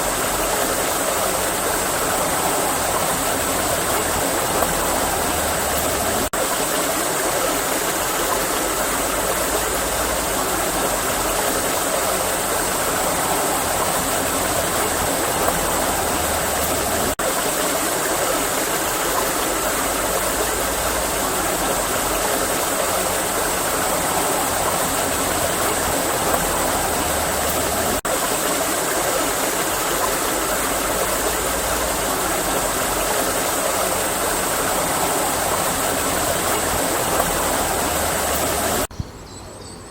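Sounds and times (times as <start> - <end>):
stream rushing and babbling: 0.0 - 39.7.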